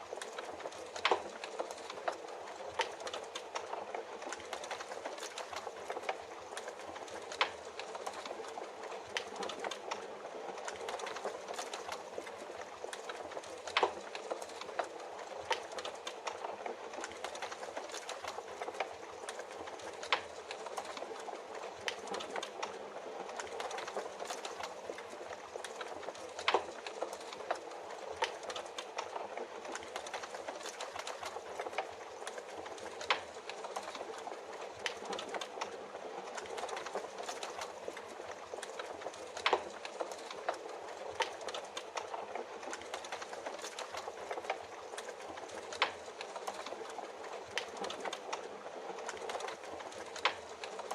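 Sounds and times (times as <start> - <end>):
rain falling: 0.0 - 50.9
wood fire crackling: 0.0 - 50.9.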